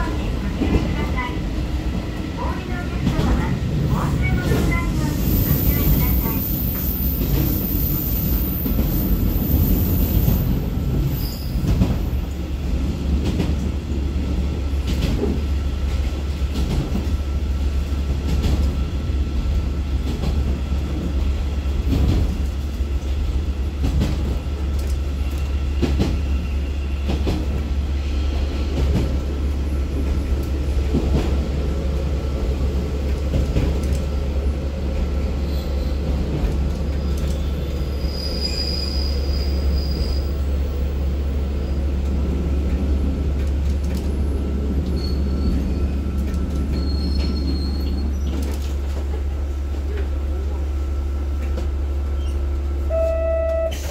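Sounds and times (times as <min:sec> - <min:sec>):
diesel railcar drone: 0:00.0 - 0:53.9.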